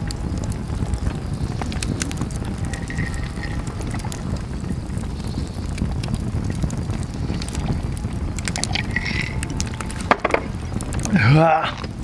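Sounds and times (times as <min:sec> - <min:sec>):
campfire crackling: 0:00.0 - 0:12.0
wind buffeting microphone: 0:00.0 - 0:12.0.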